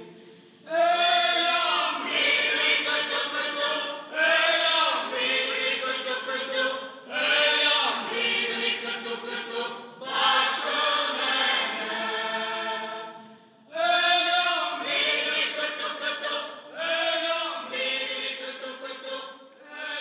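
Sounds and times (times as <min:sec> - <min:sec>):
slow vocal chant: 0:00.0 - 0:20.0.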